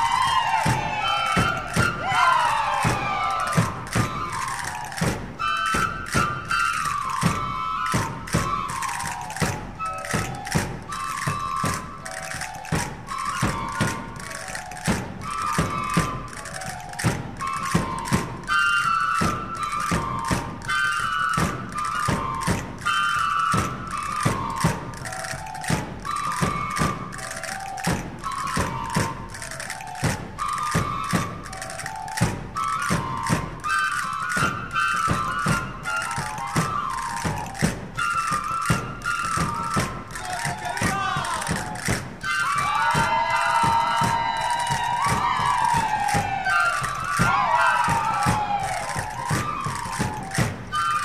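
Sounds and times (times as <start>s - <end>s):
high wooden flute tune: 0.0s - 51.0s
steady drumbeats: 0.0s - 51.0s.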